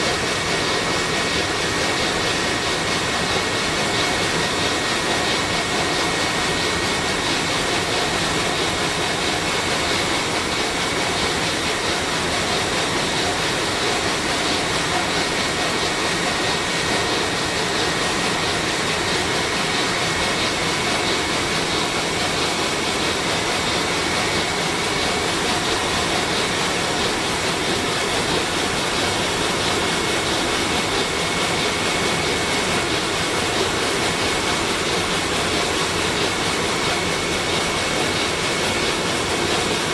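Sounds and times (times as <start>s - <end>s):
marine diesel engine running: 0.0s - 39.9s.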